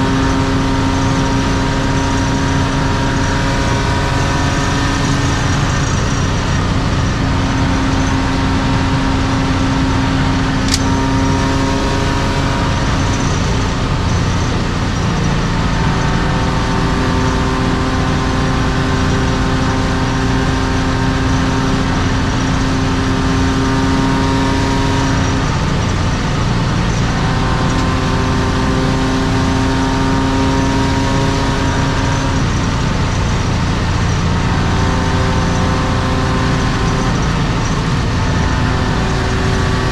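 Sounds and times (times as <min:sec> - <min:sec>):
car engine droning while cruising: 0:00.0 - 0:39.9.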